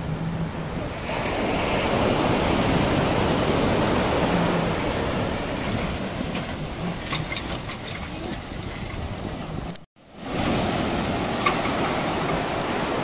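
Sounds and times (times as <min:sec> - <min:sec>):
surf washing up sand: 0:00.0 - 0:13.0.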